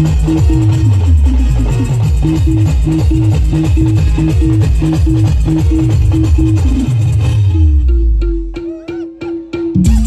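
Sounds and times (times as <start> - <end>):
band music playing loud: 0.0 - 10.0.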